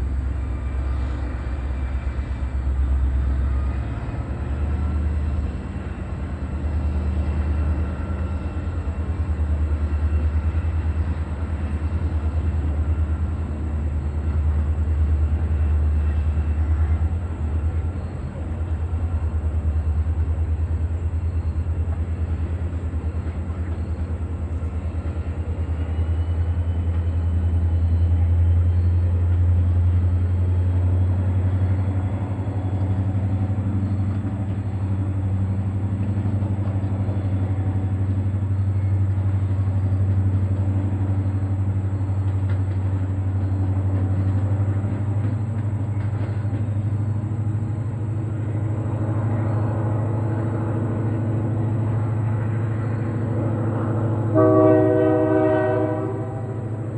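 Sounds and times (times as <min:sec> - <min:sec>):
train rumbling by: 0:00.0 - 0:56.9.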